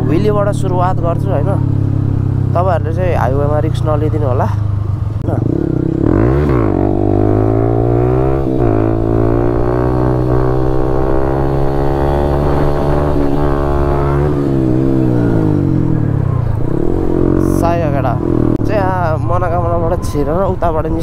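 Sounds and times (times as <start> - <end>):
motorcycle engine revving high: 0.0 - 19.1.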